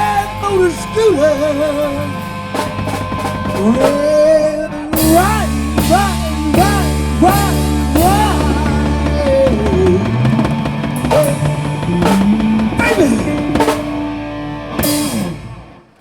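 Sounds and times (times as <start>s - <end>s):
person singing: 0.0s - 2.3s, 3.5s - 14.4s
rock band playing: 0.0s - 16.0s.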